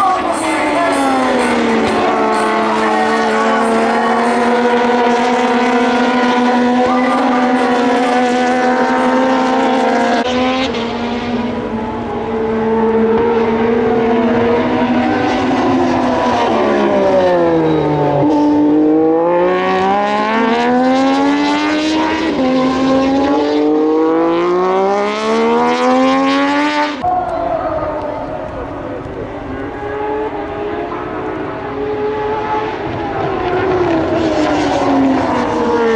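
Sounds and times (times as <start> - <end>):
race motorcycle engines revving: 0.0 - 35.9.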